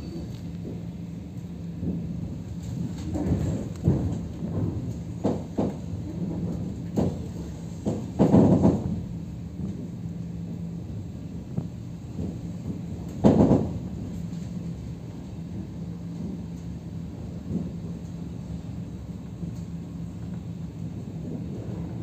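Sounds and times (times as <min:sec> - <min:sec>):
train running gear rumble: 0:00.0 - 0:22.0.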